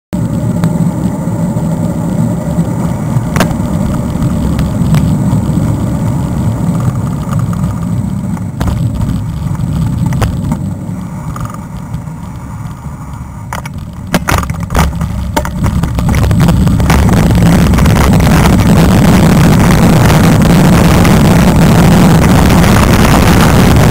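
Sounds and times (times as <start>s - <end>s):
bike rattling over bumps: 0.2s - 23.9s
wind rumbling on microphone: 0.2s - 23.9s.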